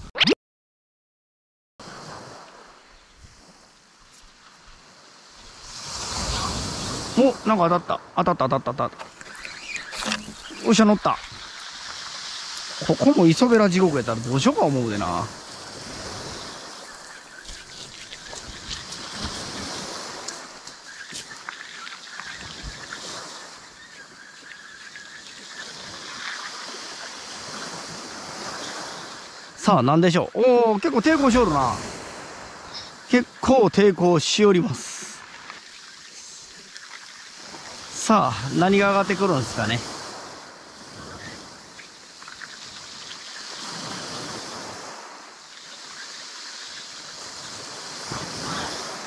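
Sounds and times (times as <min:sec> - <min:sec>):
sea waves washing on shore: 0:01.8 - 0:49.0.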